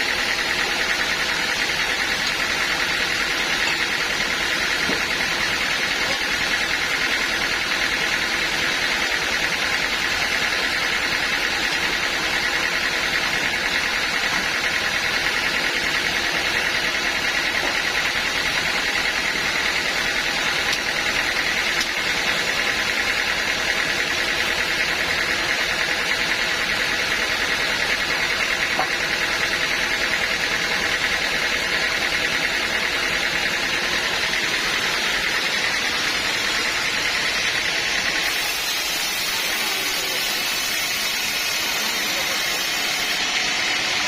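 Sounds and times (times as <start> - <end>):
sawmill machinery with high whine: 0.0 - 44.0.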